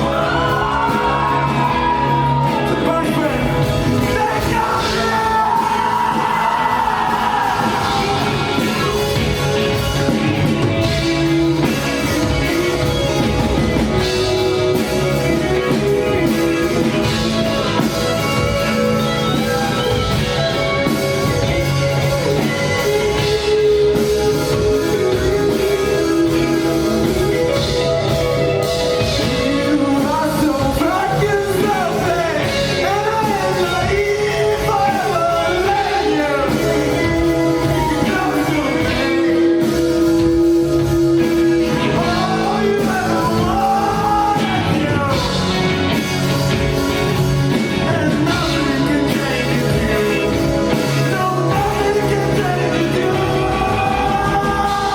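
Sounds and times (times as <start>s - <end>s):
person singing: 0.0s - 54.9s
rock band playing: 0.0s - 54.9s.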